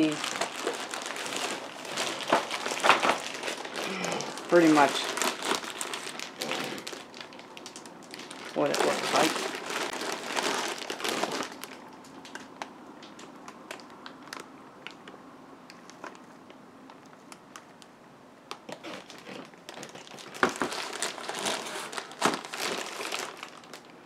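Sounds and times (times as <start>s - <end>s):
plastic wrapping crinkling: 0.0s - 17.9s, 18.5s - 24.0s.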